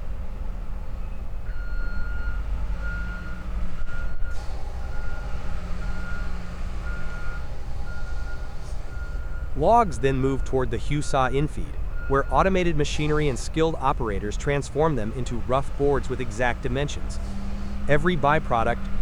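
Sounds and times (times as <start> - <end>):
heavy diesel machinery rumble: 0.0 - 19.0
vehicle backup alarm beeping: 1.1 - 19.0.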